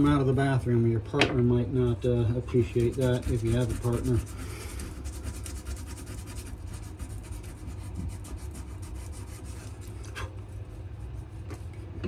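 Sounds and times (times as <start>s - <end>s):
rubbing strokes on knife handle: 2.0s - 12.0s.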